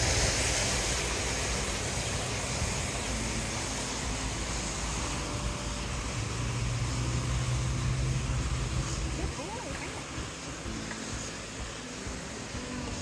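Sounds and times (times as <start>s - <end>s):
urban background hiss: 0.0s - 13.0s.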